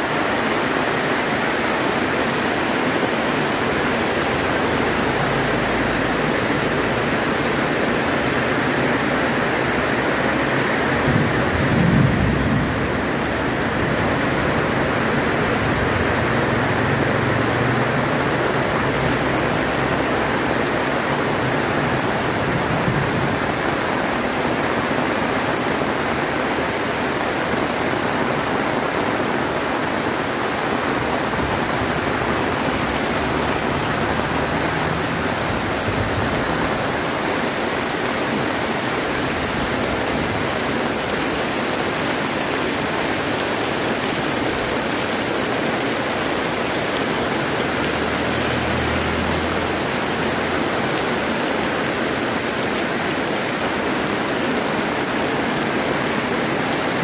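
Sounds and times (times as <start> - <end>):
very heavy rain: 0.0 - 57.0.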